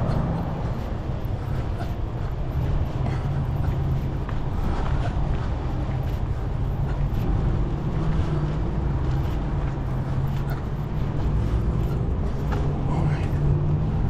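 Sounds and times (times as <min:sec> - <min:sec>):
low mechanical hum: 0:00.0 - 0:14.0
low rumble: 0:00.0 - 0:14.0.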